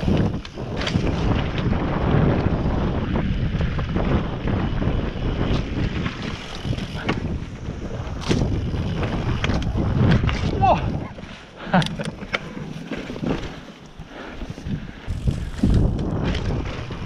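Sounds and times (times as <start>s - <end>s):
wind buffeting microphone: 0.0s - 12.5s, 14.1s - 17.0s
bike rattling over bumps: 0.0s - 17.0s
bike tyres rumbling on dirt: 0.0s - 17.0s.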